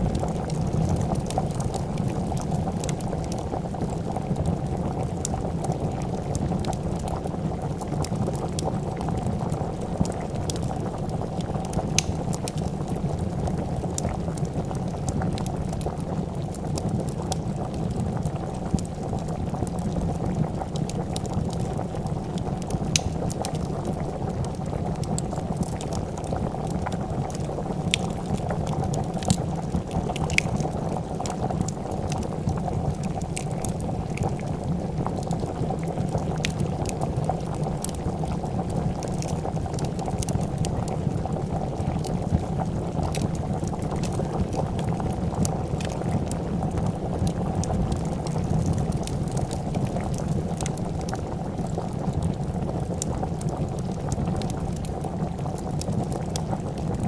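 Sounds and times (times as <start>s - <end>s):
soup bubbling at a boil: 0.0s - 57.0s
wood fire crackling: 0.0s - 57.0s.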